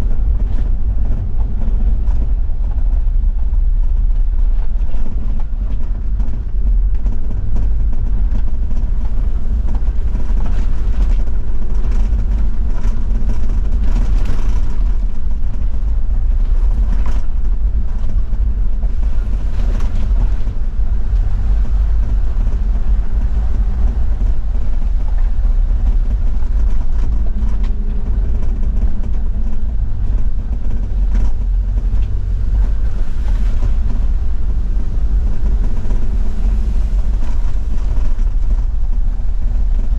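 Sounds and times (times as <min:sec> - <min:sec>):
diesel engine rumbling: 0:00.0 - 0:39.9
road and tyre noise: 0:00.0 - 0:39.9.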